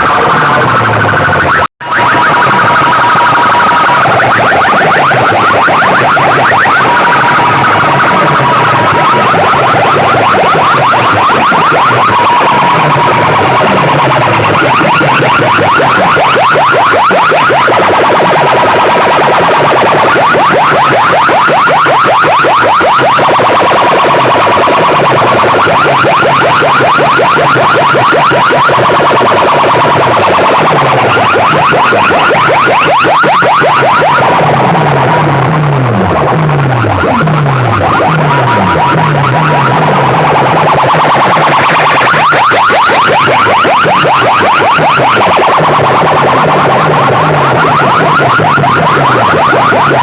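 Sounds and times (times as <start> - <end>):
electronic alarm-like track: 0.0 - 50.0
sliding bass notes: 0.0 - 50.0.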